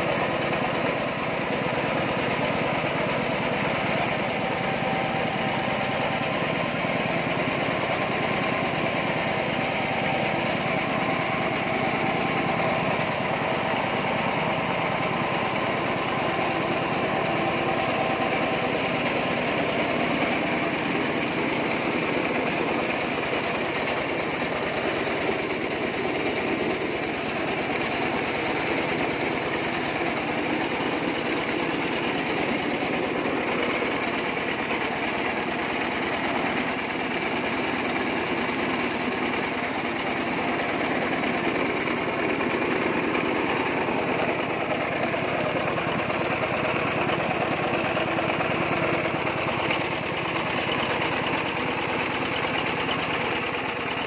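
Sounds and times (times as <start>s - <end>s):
rice milling machine running: 0.0s - 54.0s.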